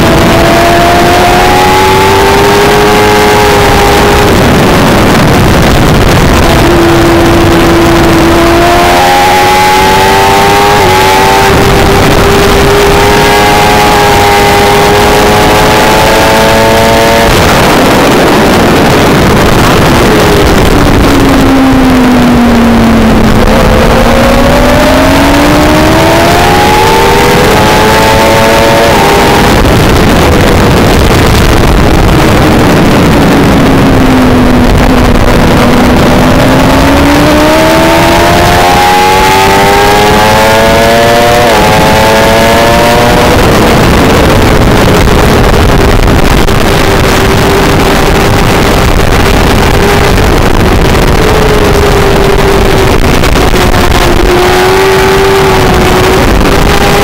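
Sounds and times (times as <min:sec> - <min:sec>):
heavy wind noise: 0:00.0 - 0:57.0
motorcycle engine revving: 0:00.0 - 0:57.0.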